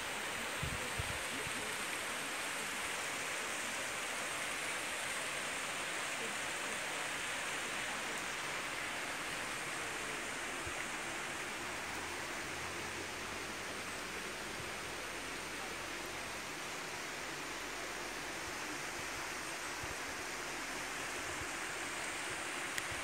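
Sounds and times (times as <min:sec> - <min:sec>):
mountain stream flowing: 0:00.0 - 0:23.0.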